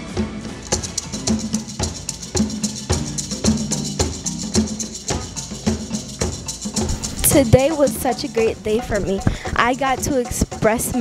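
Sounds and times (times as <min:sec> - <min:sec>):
drums striking a steady beat: 0:00.0 - 0:11.0
fast high ticking: 0:00.6 - 0:11.0.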